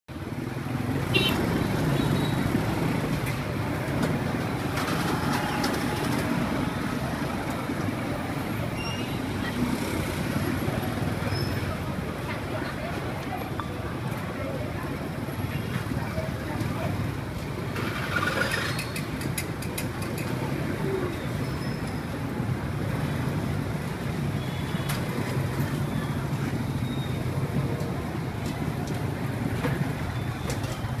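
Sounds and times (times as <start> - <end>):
road traffic: 0.1 - 31.0.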